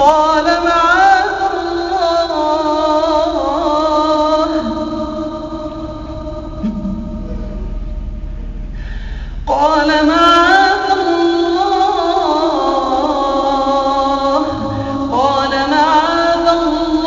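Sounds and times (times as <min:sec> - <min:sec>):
person reciting melodically: 0:00.0 - 0:08.0, 0:09.4 - 0:17.0.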